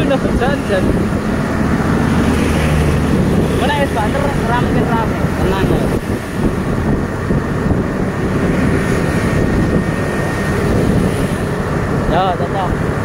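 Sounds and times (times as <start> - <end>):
road noise: 0.0 - 13.0
wind on microphone: 0.0 - 13.0.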